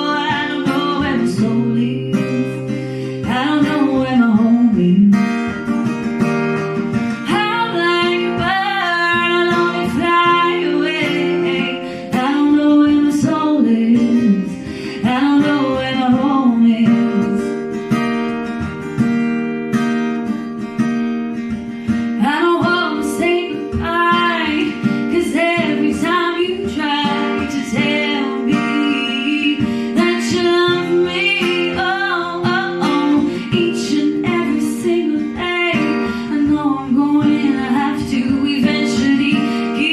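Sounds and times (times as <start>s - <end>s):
woman singing: 0.0s - 18.6s, 21.4s - 39.9s
strummed acoustic guitar: 0.0s - 39.9s.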